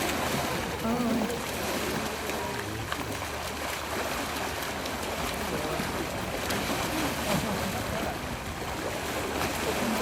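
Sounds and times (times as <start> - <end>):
shallow seawater sloshing: 0.0 - 10.0.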